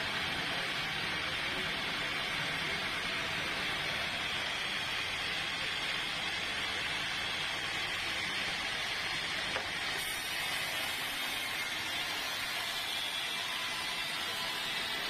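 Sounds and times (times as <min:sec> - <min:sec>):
sawmill saw running: 0:00.0 - 0:15.0.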